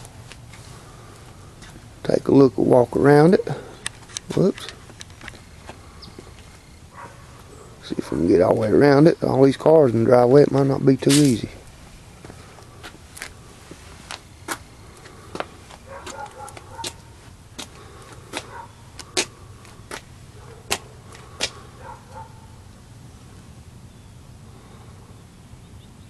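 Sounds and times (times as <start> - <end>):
footsteps on pavement: 0.0 - 1.9, 3.2 - 22.5
low steady rumble: 0.0 - 26.0.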